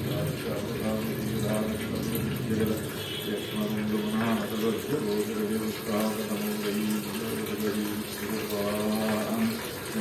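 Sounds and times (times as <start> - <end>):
milk trickling into steel basin: 0.0 - 10.0.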